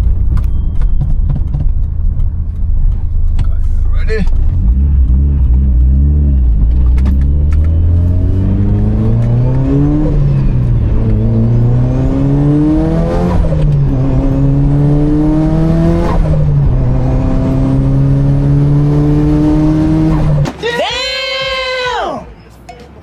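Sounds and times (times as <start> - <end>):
car engine accelerating through gears: 0.0 - 20.5.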